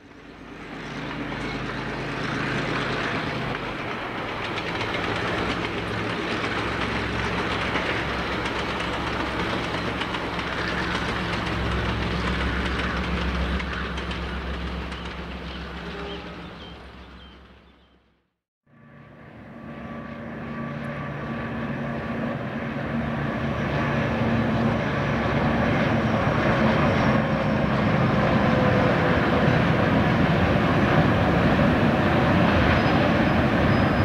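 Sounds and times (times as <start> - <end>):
wagons rumbling on rails: 0.0 - 18.2, 18.8 - 34.0
diesel locomotive engine drone: 0.0 - 34.0.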